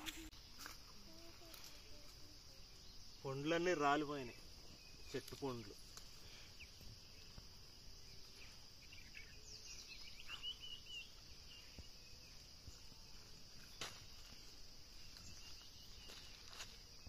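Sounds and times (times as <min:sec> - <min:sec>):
insects droning: 0:00.0 - 0:17.0
bird chirping: 0:01.1 - 0:17.0.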